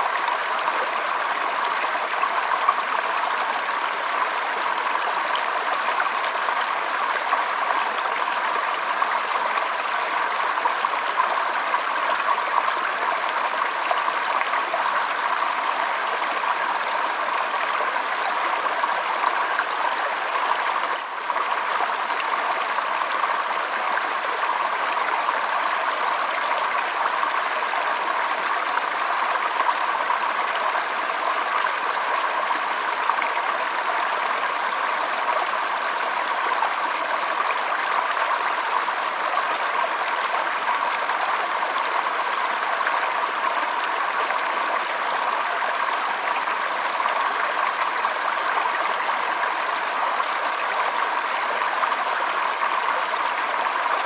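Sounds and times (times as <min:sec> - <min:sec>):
stream water running: 0:00.0 - 0:54.0.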